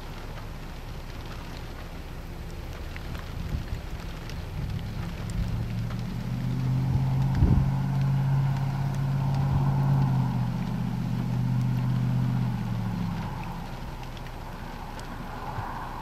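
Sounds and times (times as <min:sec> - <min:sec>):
rain hissing: 0:00.0 - 0:16.0
vehicle engine droning: 0:00.0 - 0:16.0.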